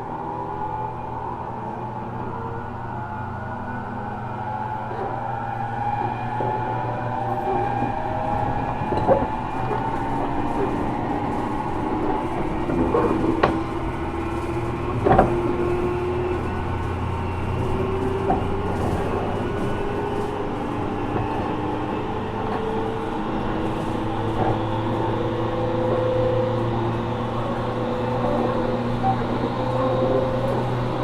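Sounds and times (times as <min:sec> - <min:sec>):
train motor whine: 0:00.0 - 0:31.0
wheels knocking on rail joints: 0:05.0 - 0:31.0.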